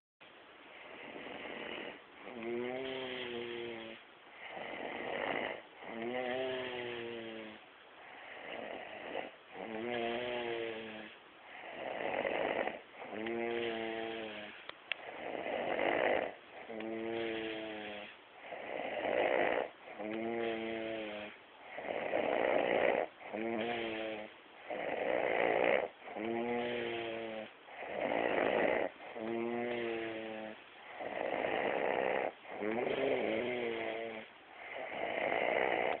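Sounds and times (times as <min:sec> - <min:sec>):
man snoring: 0:00.7 - 0:36.0.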